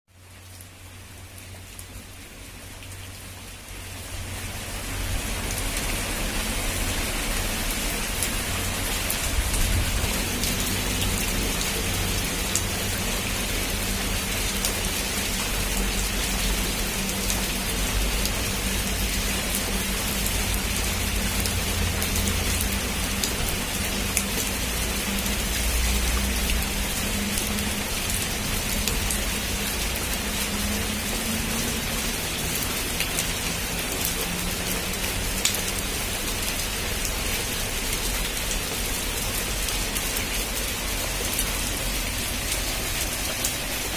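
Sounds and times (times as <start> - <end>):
heavy rain on a roof: 0.1 - 43.9.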